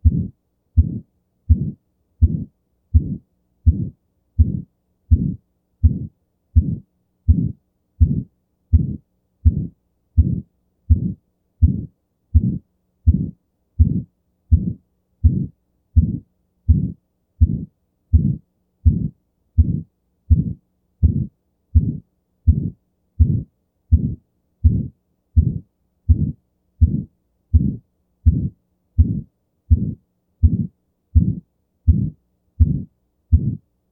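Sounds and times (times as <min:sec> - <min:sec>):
heart murmur: 0:00.0 - 0:33.6
heartbeats: 0:00.0 - 0:33.7.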